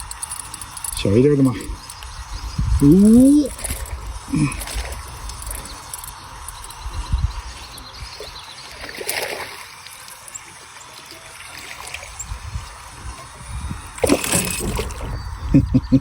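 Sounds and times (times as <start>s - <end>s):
water splashing and trickling: 0.0s - 15.5s.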